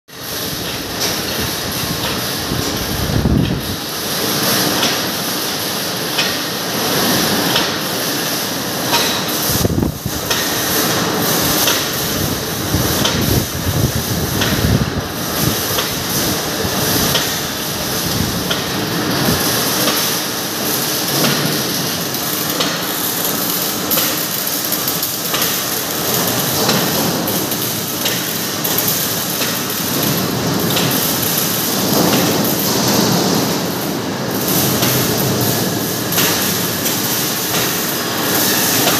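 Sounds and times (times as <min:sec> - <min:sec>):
machinery clanks and knocks: 0:00.2 - 0:38.9.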